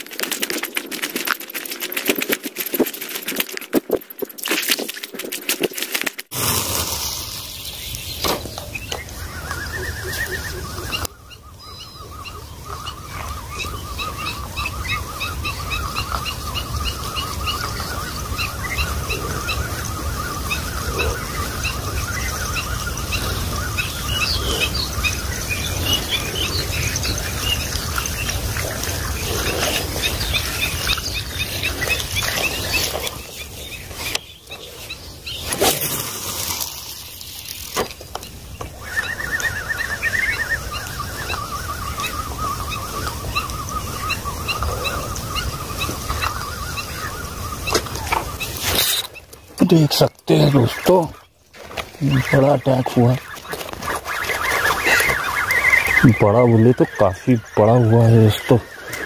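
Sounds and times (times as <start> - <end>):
birds chirping and calling: 6.8 - 59.0.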